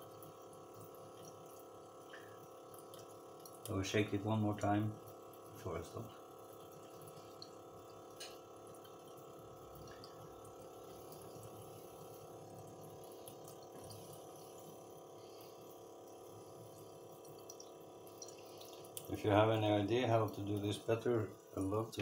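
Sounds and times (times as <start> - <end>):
small water pump hum: 0.0 - 22.0
water trickling: 0.0 - 22.0.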